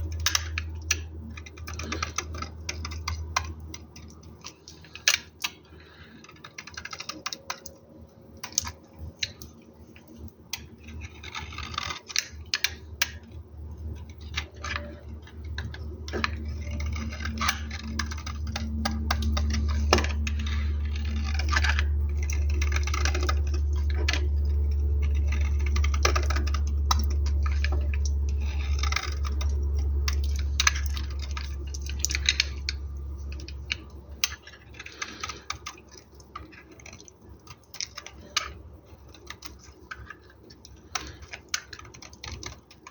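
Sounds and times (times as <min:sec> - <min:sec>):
blade cutting into soap: 0:00.0 - 0:07.8, 0:10.2 - 0:42.9
steady low hum: 0:00.0 - 0:42.9.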